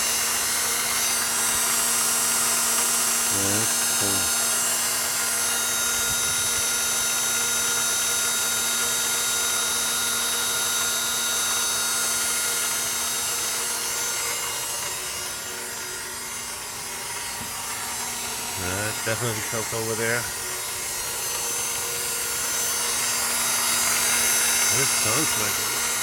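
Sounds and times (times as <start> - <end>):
electric whirring whine: 0.0 - 26.0.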